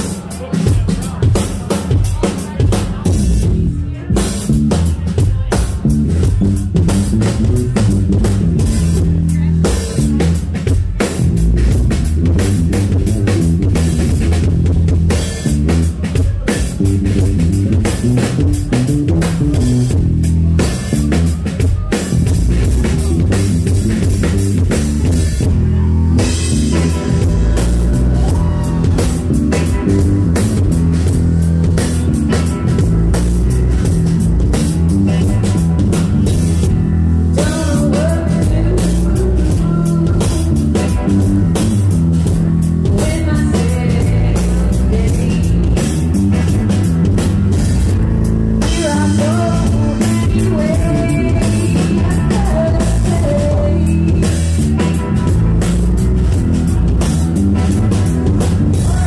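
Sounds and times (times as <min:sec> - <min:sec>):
drum kit: 0:00.0 - 0:59.0
electric bass: 0:00.0 - 0:59.0
electric guitar: 0:05.6 - 0:59.0.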